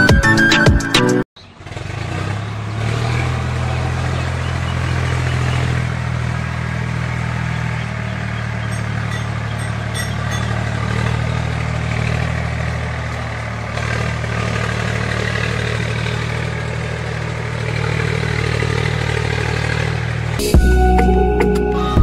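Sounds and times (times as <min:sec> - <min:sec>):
tractor engine idling: 0:01.4 - 0:21.1.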